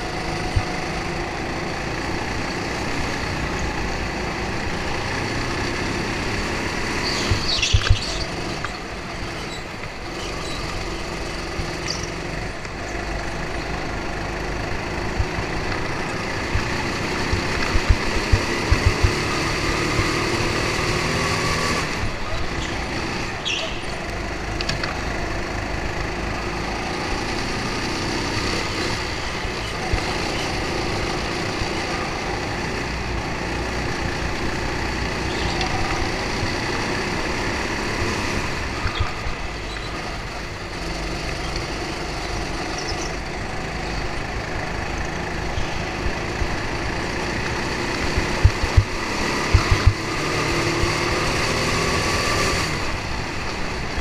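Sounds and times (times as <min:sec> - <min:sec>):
go-kart motor running: 0:00.0 - 0:54.0.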